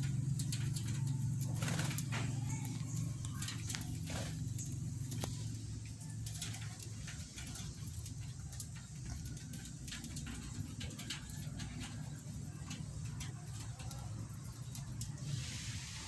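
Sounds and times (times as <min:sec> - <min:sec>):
birds pecking at leaves: 0:00.0 - 0:16.0
low steady hum: 0:00.0 - 0:16.0.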